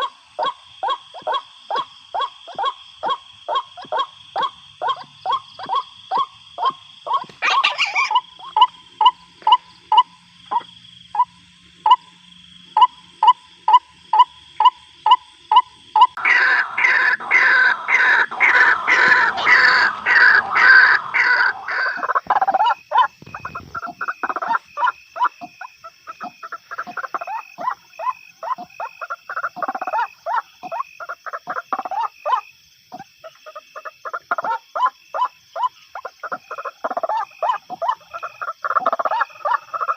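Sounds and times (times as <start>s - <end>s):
waterhens calling: 0.0s - 11.3s, 15.5s - 39.9s.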